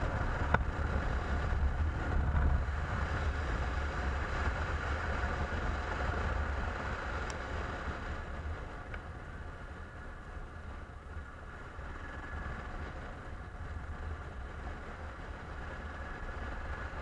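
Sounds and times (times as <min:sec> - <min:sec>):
motorcycle engine running: 0:00.0 - 0:17.0
wind rumbling on microphone: 0:00.0 - 0:17.0.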